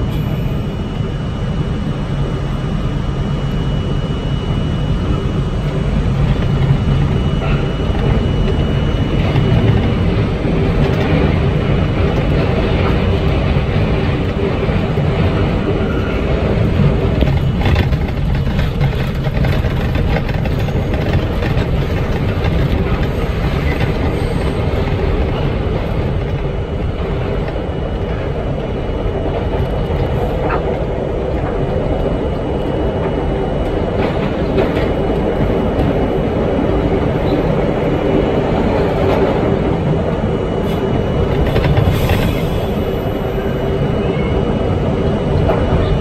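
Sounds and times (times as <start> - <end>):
subway train rumbling: 0.0 - 46.0.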